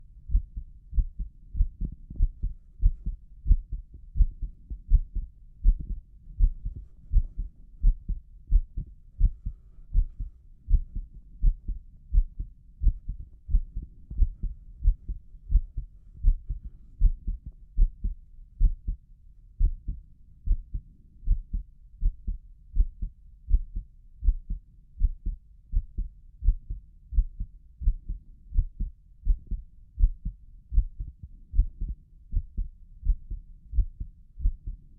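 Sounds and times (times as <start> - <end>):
heartbeat through stethoscope: 0.0 - 19.0, 19.6 - 34.9.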